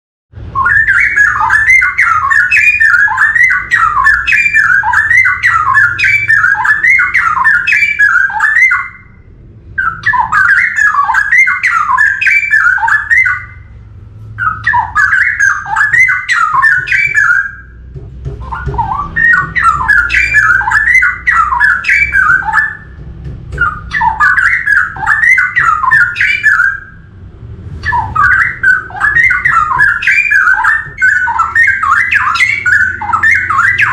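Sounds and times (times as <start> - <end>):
bird singing warbled notes: 0.4 - 33.9.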